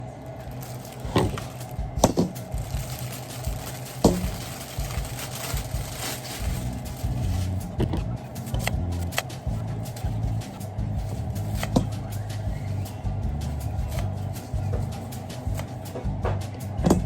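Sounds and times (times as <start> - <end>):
low steady hum: 0.0 - 17.0
utensils knocking: 0.5 - 17.0.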